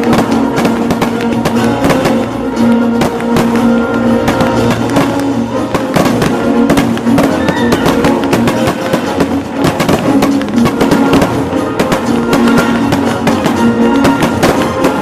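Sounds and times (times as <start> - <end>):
background music with held notes: 0.0 - 15.0
rapid sharp percussive hits: 0.0 - 15.0.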